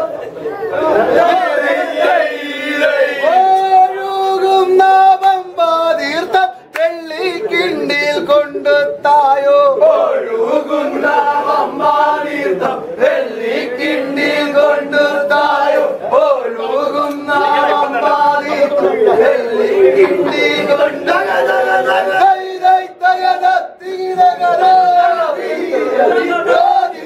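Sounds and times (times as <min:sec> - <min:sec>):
men singing in chorus: 0:01.2 - 0:27.0.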